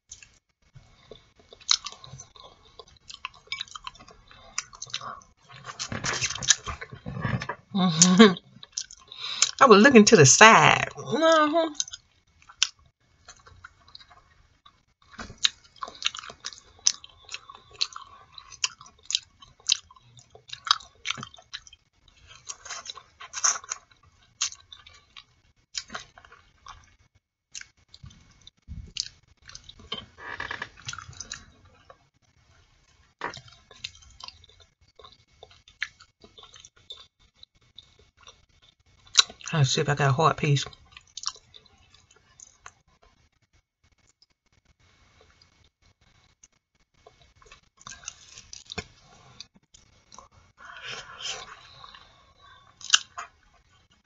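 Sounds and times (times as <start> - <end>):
wet chewing mouth sounds: 1.0 - 7.2, 8.6 - 9.6, 11.8 - 30.1, 30.8 - 32.0, 33.2 - 39.5, 40.6 - 43.1, 45.2 - 53.8.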